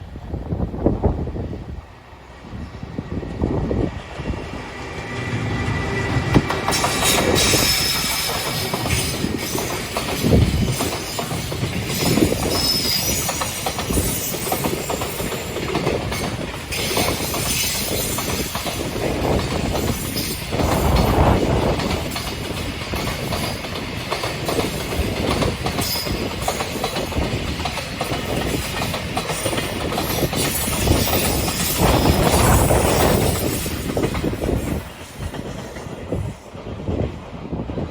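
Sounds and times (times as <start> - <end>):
wheels clacking over rail joints: 4.1 - 36.2
wheels rolling on rails: 5.1 - 36.5.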